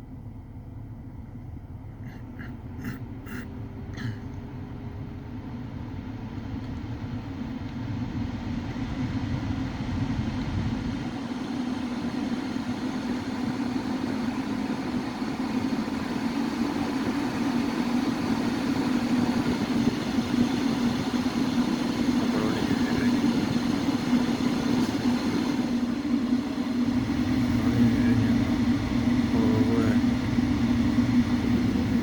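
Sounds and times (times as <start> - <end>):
heater blower fan rushing air: 0.0 - 32.0.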